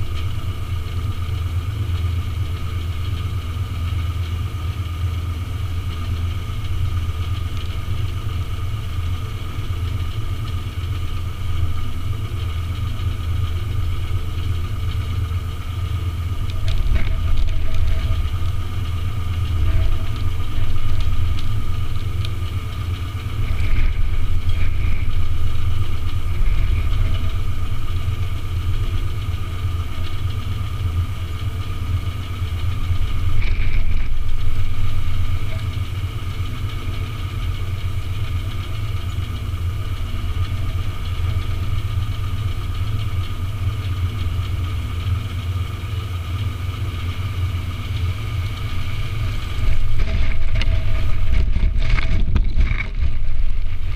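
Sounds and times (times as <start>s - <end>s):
engine idling with whine: 0.0s - 53.9s.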